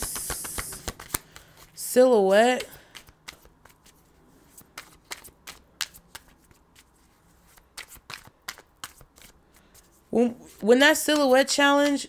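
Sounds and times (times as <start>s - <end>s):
cards being shuffled: 0.0s - 1.8s, 2.5s - 12.0s.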